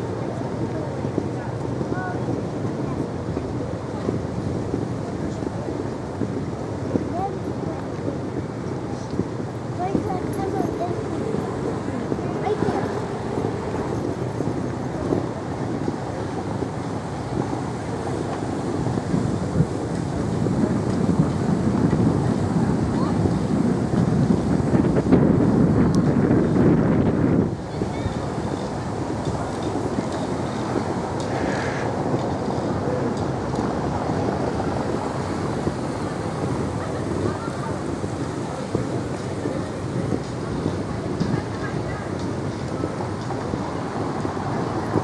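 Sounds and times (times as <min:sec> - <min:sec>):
city street hubbub: 0:00.0 - 0:45.0
wind buffeting microphone: 0:00.0 - 0:45.0.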